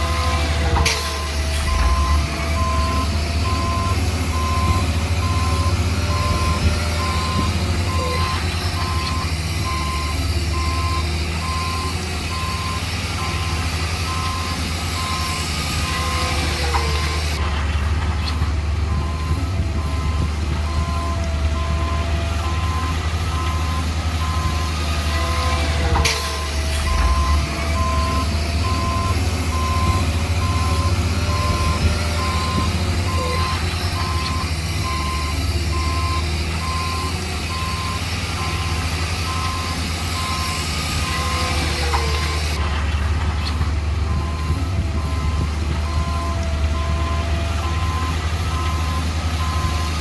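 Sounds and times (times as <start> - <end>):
reversing alarm beeping: 0.0 - 17.4, 18.9 - 42.6, 44.1 - 50.0
diesel engine rumbling: 0.0 - 50.0.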